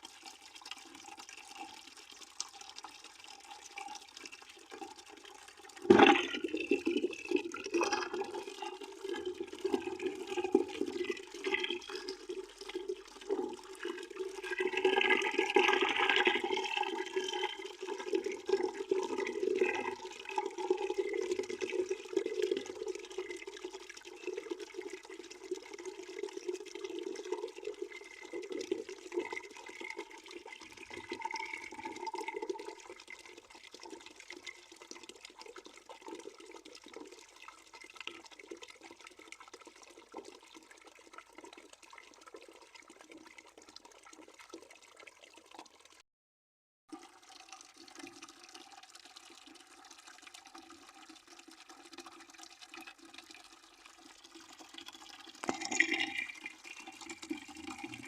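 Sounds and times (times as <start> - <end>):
water pouring into a bucket: 0.0 - 46.0, 46.9 - 58.0.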